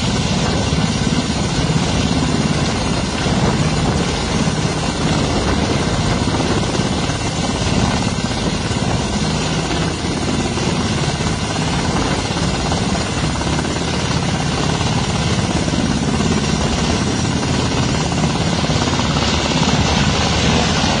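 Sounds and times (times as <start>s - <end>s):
helicopter rotor chopping: 0.0s - 21.0s.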